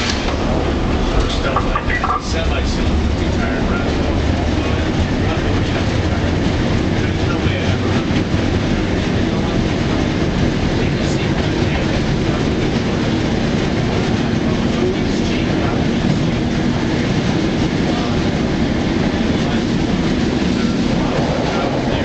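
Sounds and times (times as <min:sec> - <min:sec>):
streetcar wheels rumbling on rails: 0:00.0 - 0:22.0.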